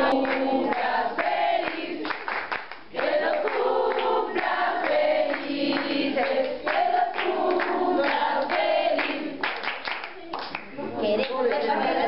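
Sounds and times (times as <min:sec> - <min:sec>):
group singing unaccompanied: 0:00.0 - 0:09.6, 0:11.4 - 0:12.0.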